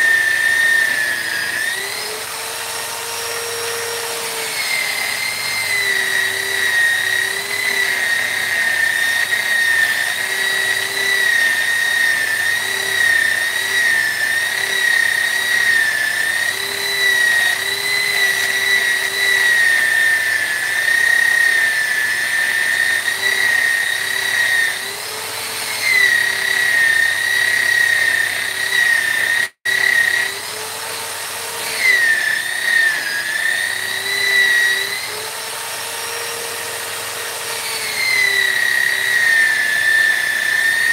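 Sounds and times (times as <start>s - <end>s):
rotary carving tool whining: 0.0s - 40.9s.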